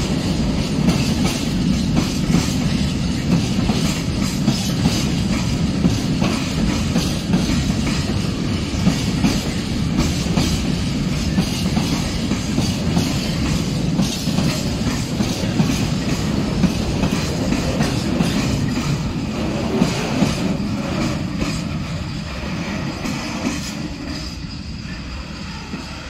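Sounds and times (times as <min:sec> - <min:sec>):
freight train wheels rumbling: 0:00.0 - 0:26.0
wheels clicking over rail joints: 0:00.1 - 0:24.2.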